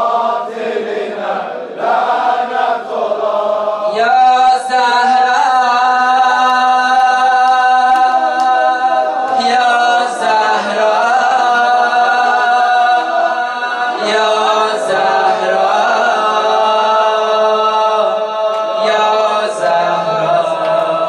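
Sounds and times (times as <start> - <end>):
several voices chanting a lament: 0.0 - 21.0.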